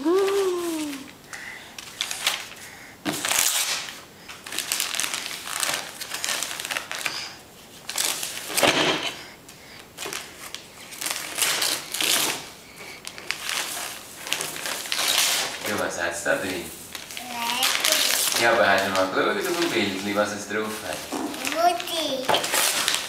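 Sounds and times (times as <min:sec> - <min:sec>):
wrapping paper tearing and rustling: 0:00.0 - 0:01.1, 0:01.8 - 0:08.6, 0:10.0 - 0:23.0.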